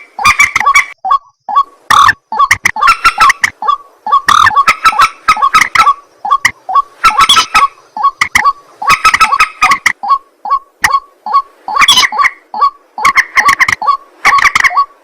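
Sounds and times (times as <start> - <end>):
waterhen calling harshly: 0.0 - 15.0.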